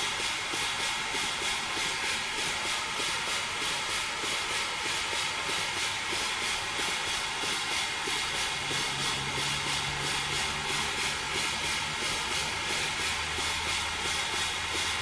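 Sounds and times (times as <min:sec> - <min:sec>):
constant air hiss: 0:00.0 - 0:15.0
model steam engine exhaust puffs: 0:00.0 - 0:15.0.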